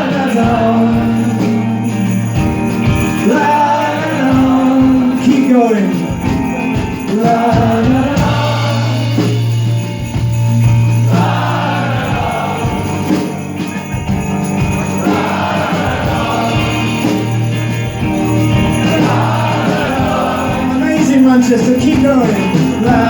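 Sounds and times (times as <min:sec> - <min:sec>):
amplified guitar: 0:00.0 - 0:23.0
audience singing together: 0:00.0 - 0:23.0
jingle bells ringing: 0:00.0 - 0:23.0.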